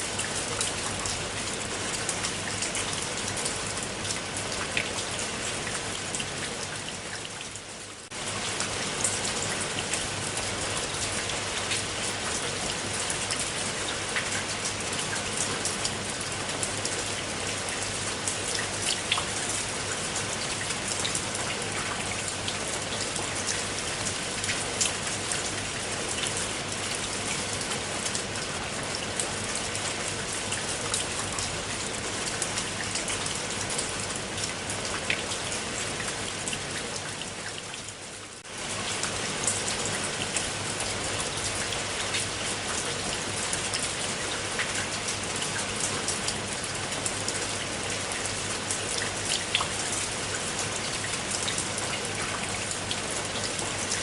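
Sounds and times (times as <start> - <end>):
rain falling: 0.0 - 54.0
raindrops ticking on a surface: 0.0 - 54.0.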